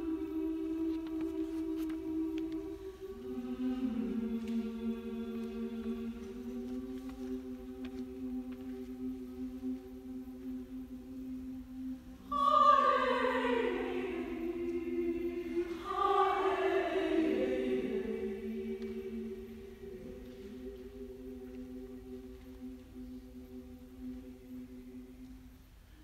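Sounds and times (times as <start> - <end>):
women's choir singing: 0.0 - 25.8.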